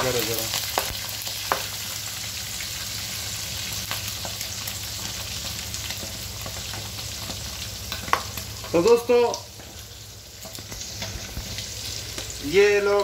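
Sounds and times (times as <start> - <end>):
sausages sizzling in oil: 0.0 - 13.0.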